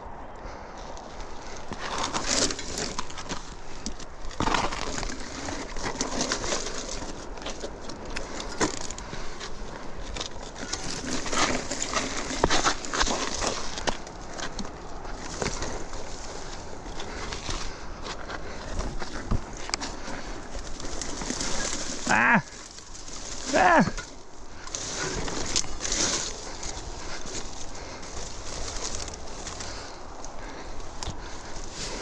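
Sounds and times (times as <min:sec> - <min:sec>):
bike tyres crunching on dirt: 0:00.0 - 0:32.0
bike clicks and rattles: 0:00.1 - 0:32.0.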